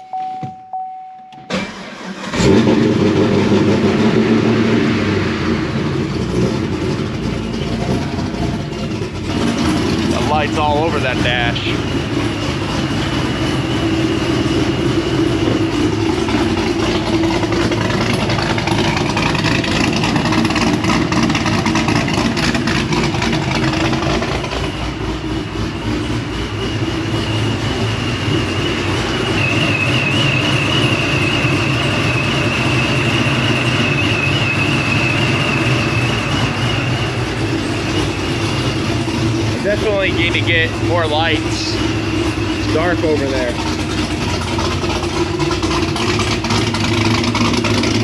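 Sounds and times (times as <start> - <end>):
vehicle engine idling: 1.5 - 48.0.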